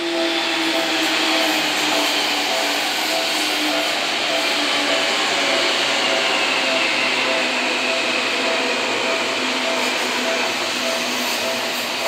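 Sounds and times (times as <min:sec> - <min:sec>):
distant electric train rushing: 0:00.0 - 0:12.0.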